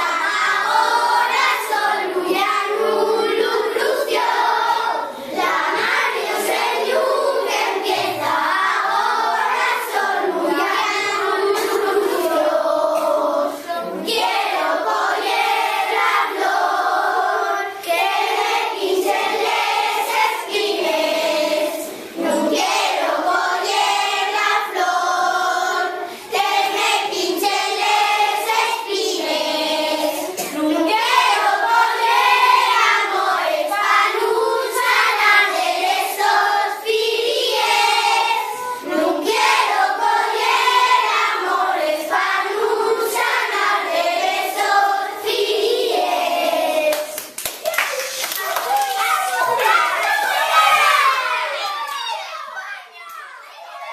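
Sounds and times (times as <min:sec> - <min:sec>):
children singing in chorus: 0:00.0 - 0:47.4, 0:48.4 - 0:53.9.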